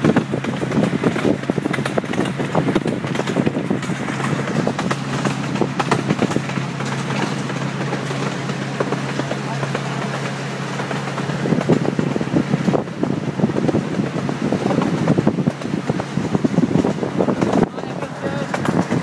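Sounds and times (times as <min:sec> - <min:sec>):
cars rattling over rails: 0:00.0 - 0:19.0
locomotive engine humming: 0:00.0 - 0:19.0.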